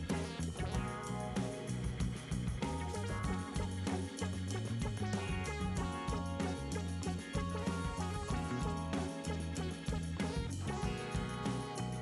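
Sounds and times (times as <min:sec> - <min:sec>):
bass line: 0:00.0 - 0:12.0
guitar: 0:00.0 - 0:12.0
steady drum beat: 0:00.0 - 0:12.0.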